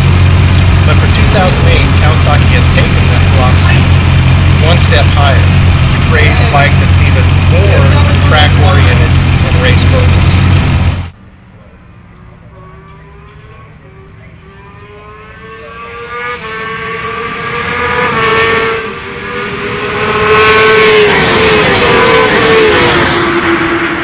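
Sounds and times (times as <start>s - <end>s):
motorcycle engine at high revs: 0.0s - 11.1s, 12.6s - 24.0s.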